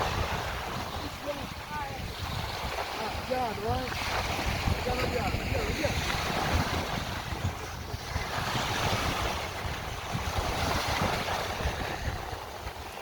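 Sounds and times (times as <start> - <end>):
sea surf washing in: 0.0 - 13.0
wind buffeting microphone: 0.0 - 13.0.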